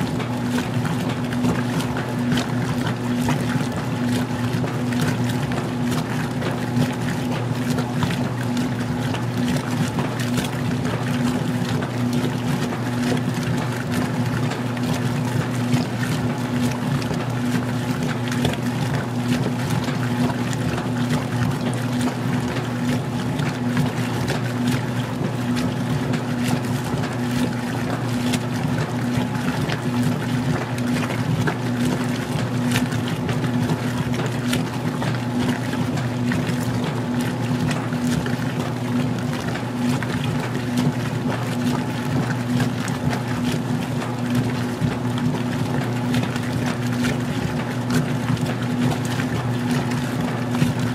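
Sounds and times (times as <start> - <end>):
washing machine motor hum: 0.0 - 50.9
water churning: 0.0 - 50.9.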